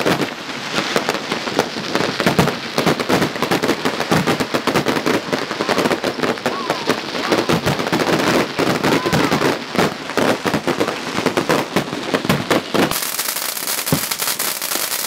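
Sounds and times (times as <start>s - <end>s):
crackling hiss: 0.0s - 15.0s
fireworks bangs and pops: 0.0s - 15.0s.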